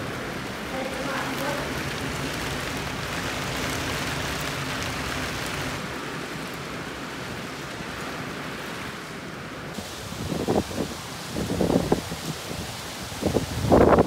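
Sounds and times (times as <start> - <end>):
rain and wind on windows: 0.0 - 14.0.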